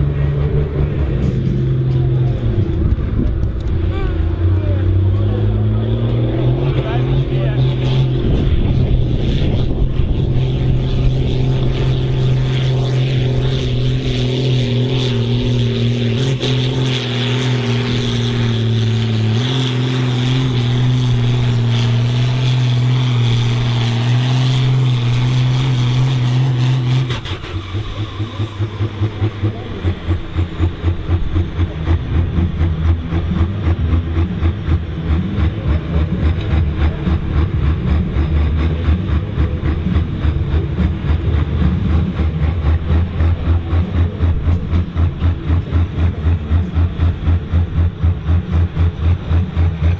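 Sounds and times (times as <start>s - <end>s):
diesel tractor engine revving: 0.0s - 49.9s.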